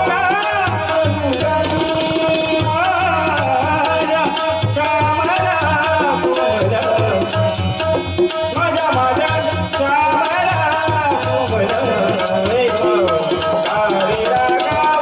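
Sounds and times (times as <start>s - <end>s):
rattling hand percussion: 0.0s - 15.0s
steady drum beat: 0.0s - 15.0s.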